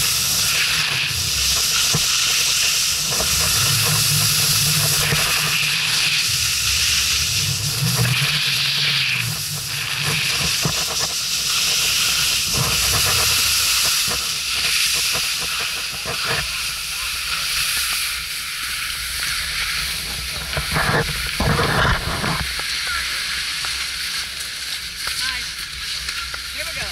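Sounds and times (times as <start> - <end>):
wind rumbling on microphone: 0.0 - 26.6
skis scraping over packed snow: 0.0 - 26.9.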